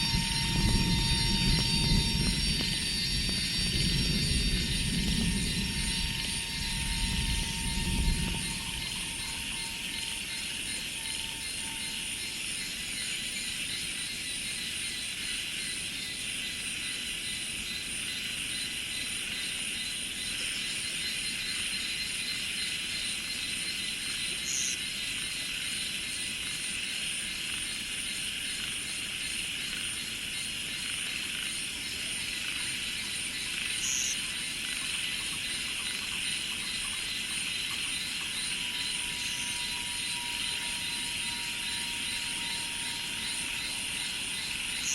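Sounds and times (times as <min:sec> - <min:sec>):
insect chorus buzzing: 0:00.0 - 0:44.9.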